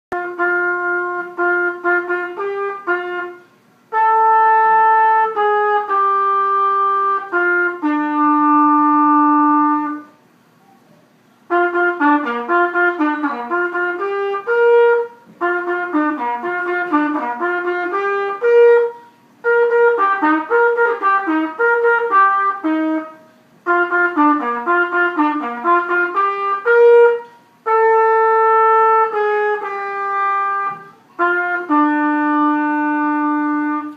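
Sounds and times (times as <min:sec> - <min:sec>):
solo trumpet playing: 0:00.1 - 0:10.2, 0:11.4 - 0:33.9.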